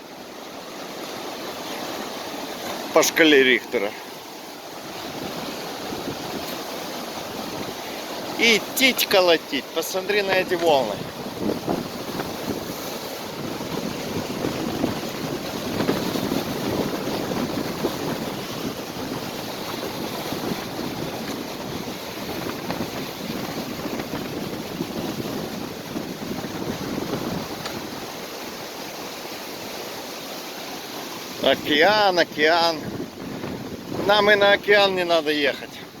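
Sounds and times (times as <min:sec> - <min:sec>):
waves surging and breaking: 0:00.0 - 0:36.0
wind blowing across microphone: 0:01.2 - 0:30.0, 0:31.0 - 0:36.0.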